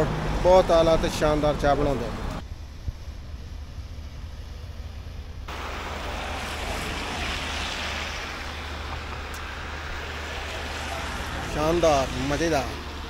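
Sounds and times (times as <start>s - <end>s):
outdoor rushing noise: 0.0s - 13.0s.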